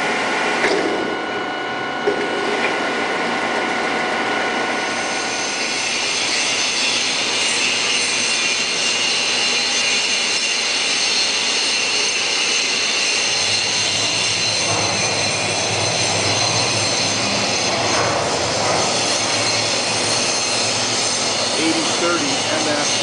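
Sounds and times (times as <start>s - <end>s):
boring mill mechanical whine: 0.0s - 23.0s.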